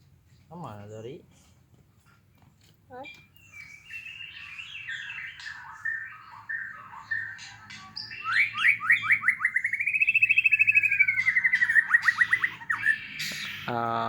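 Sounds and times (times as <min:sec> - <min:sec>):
songbird chirping and trilling: 0:02.4 - 0:14.0.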